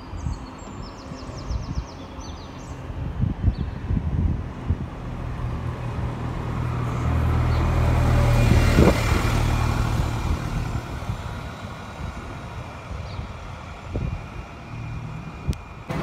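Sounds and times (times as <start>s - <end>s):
bus diesel engine passing: 0.0s - 16.0s.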